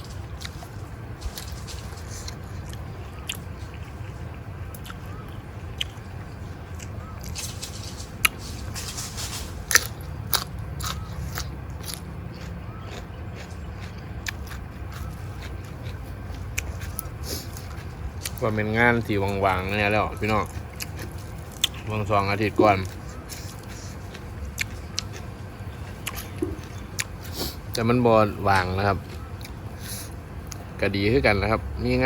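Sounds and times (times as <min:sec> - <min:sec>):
chewing and crunching: 0:00.0 - 0:32.0.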